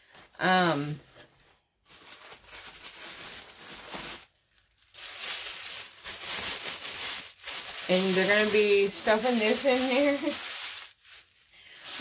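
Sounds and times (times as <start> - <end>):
packing material crinkling: 1.8 - 12.0.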